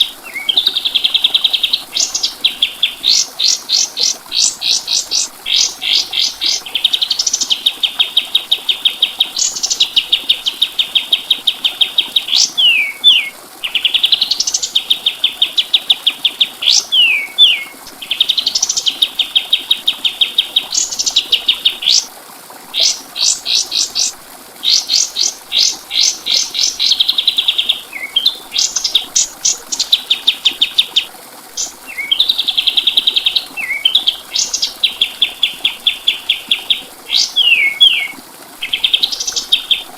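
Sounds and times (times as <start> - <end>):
bird singing rattling trills: 0.2 - 22.1, 24.7 - 39.9.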